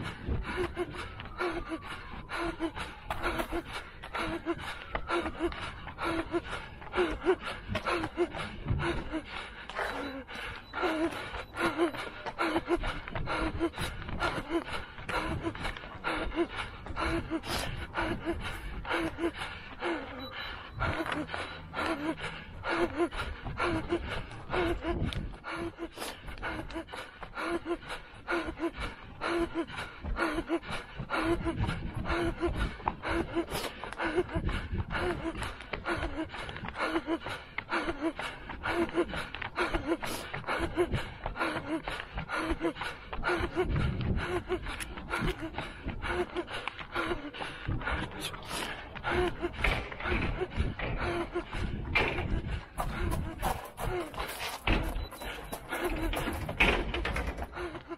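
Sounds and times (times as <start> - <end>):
runner gasping breaths: 0.0 - 57.9.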